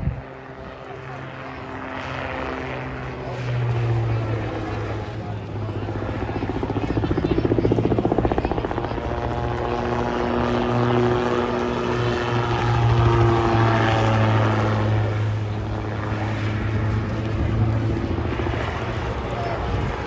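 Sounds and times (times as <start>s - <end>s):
autogyro engine and propeller droning: 0.0s - 20.0s.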